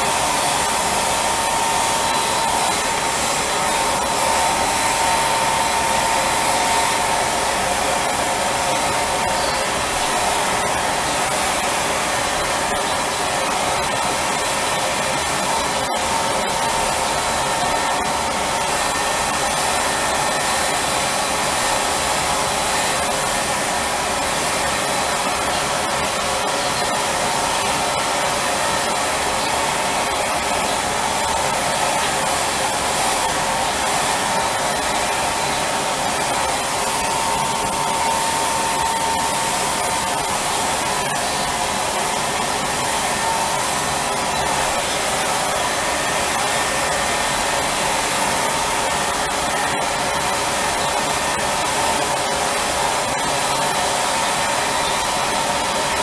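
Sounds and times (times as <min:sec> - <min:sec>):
turbine blower whooshing hiss: 0:00.0 - 0:56.0.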